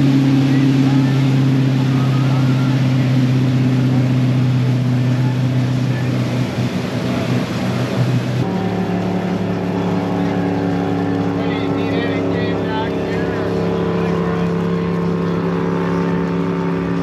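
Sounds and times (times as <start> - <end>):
motorboat engine running: 0.0 - 17.0
wind and water rushing: 0.0 - 17.0.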